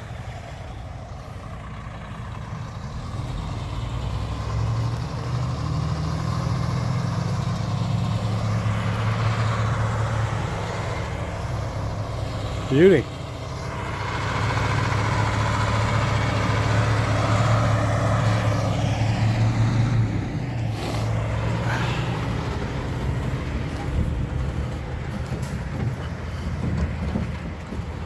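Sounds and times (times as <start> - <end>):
truck diesel engine droning: 0.0 - 28.0.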